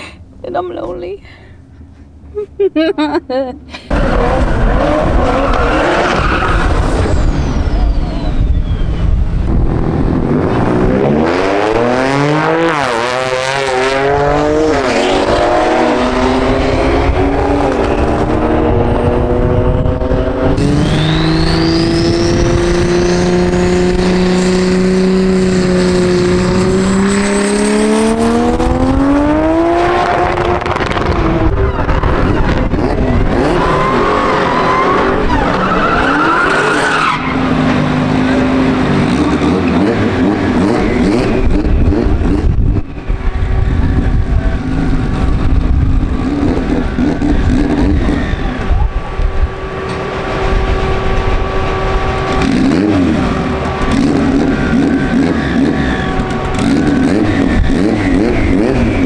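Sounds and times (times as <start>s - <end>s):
engines revving hard: 3.9s - 59.0s.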